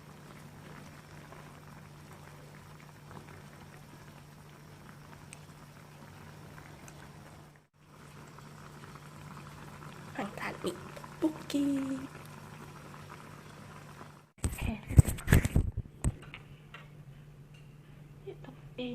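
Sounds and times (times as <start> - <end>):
pot bubbling at a boil: 0.0 - 16.4.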